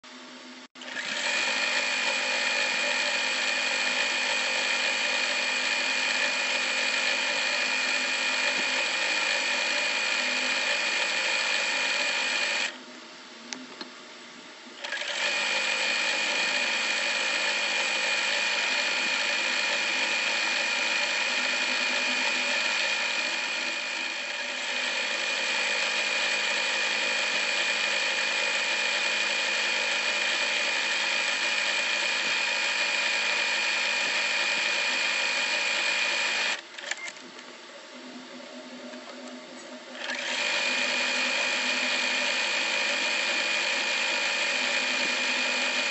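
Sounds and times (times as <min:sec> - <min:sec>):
sewing machine stitching: 0:00.8 - 0:12.8, 0:14.8 - 0:37.1, 0:40.0 - 0:45.9.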